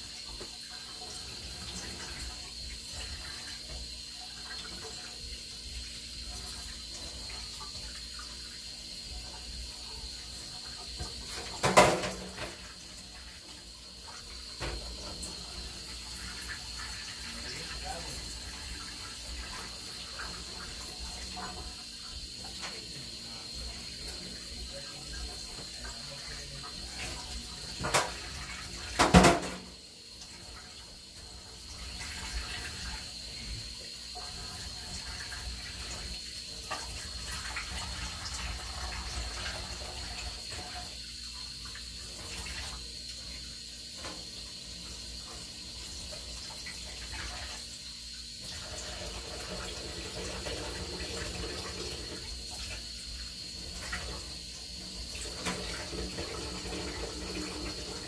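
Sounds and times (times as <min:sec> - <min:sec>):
tap water running into sink: 0:00.0 - 0:58.0.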